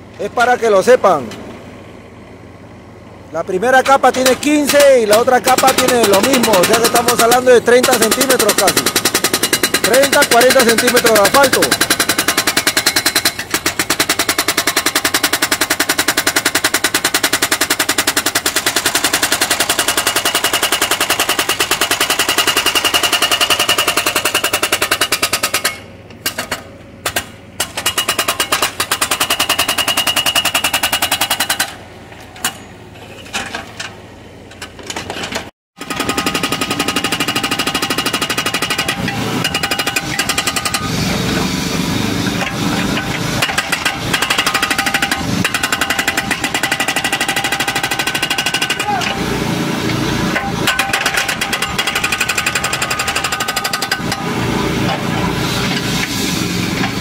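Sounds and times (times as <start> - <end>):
hydraulic hammer breaking asphalt: 3.8 - 32.6, 34.6 - 41.5, 42.2 - 57.0.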